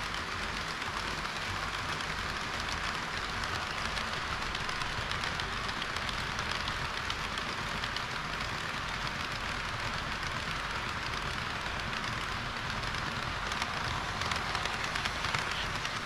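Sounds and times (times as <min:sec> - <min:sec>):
model train wheels on rails: 0:00.0 - 0:16.0.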